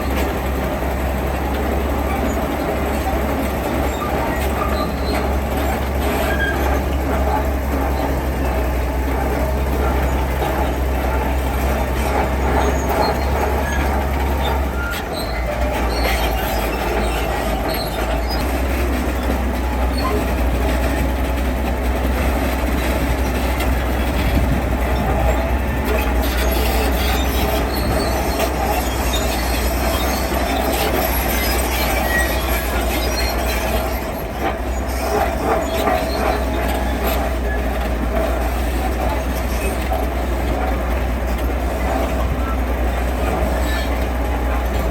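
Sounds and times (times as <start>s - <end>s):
diesel engine drone: 0.0s - 44.9s
grinding mechanical noise: 0.0s - 44.9s.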